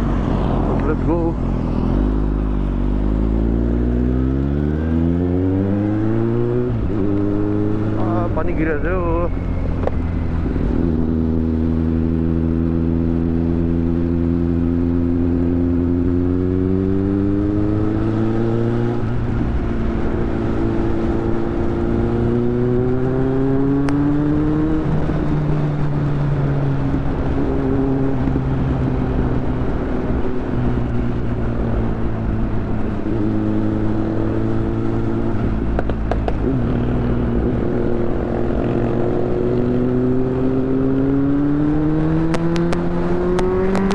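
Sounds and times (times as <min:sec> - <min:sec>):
motorbike engine accelerating: 0:00.0 - 0:43.9.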